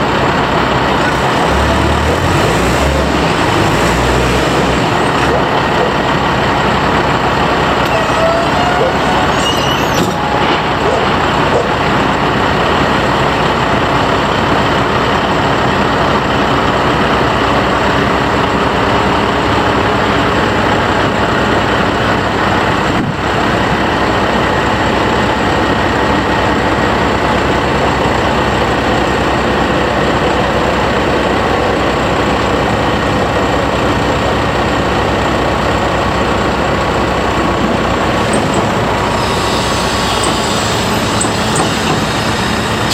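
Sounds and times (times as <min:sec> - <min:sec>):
heavy engine running: 0:00.0 - 0:42.9.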